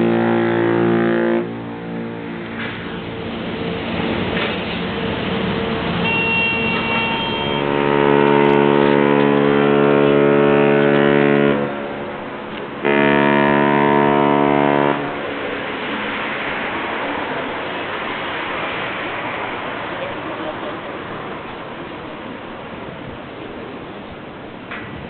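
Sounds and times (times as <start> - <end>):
deep ship's horn blasts: 0.0 - 3.6, 5.8 - 23.2.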